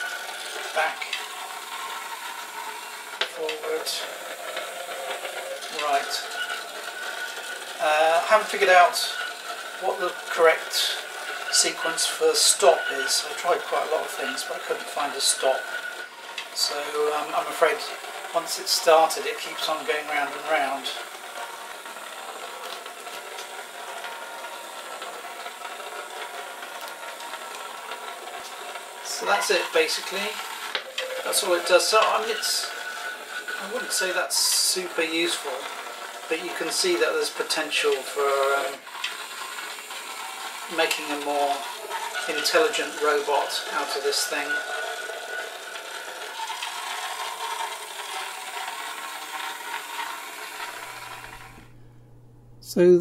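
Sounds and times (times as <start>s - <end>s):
small electric motors running: 0.0s - 52.6s.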